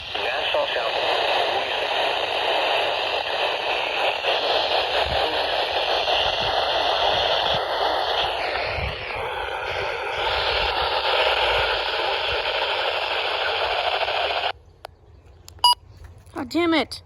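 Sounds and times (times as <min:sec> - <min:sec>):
radio static hiss: 0:00.0 - 0:14.5.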